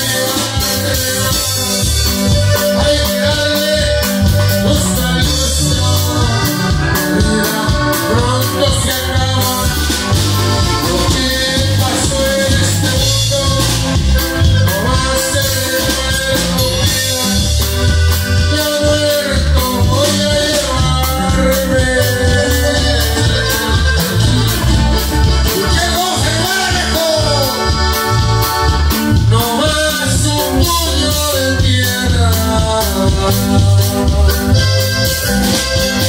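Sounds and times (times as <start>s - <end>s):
man singing into microphone: 0.0s - 27.8s, 29.0s - 36.0s
button accordion: 0.0s - 36.0s
drum kit beat: 0.0s - 36.0s
electric bass: 0.0s - 36.0s.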